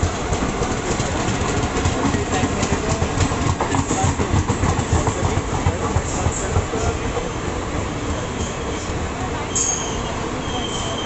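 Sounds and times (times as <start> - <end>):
train coaches rumbling past: 0.0 - 11.0.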